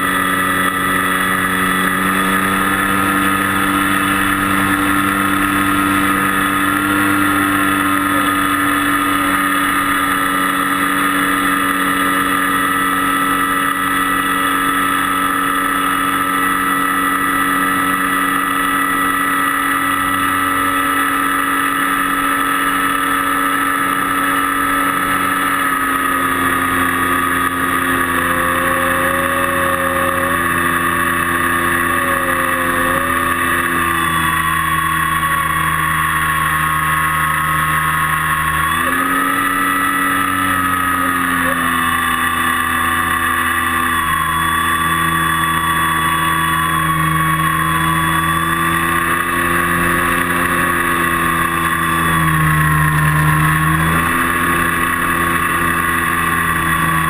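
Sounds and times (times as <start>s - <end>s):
model airplane motor whine: 0.0s - 57.0s.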